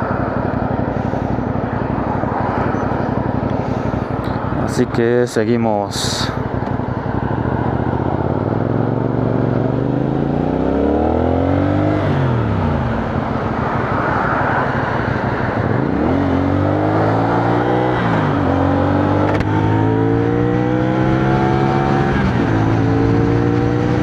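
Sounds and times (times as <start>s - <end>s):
motorcycle engine accelerating: 0.0s - 5.2s, 5.8s - 24.0s.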